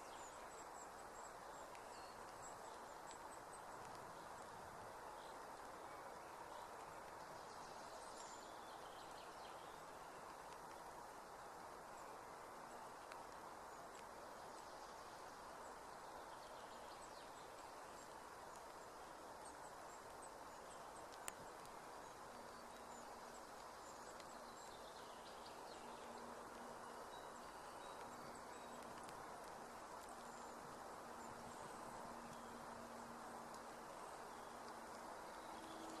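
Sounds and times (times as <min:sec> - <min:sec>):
soft hiss: 0:00.0 - 0:36.0.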